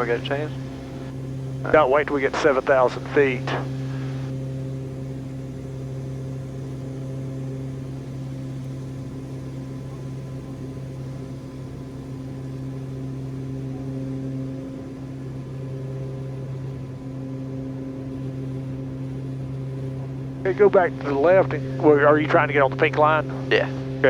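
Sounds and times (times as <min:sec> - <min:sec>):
turboprop engines droning: 0:00.0 - 0:24.0.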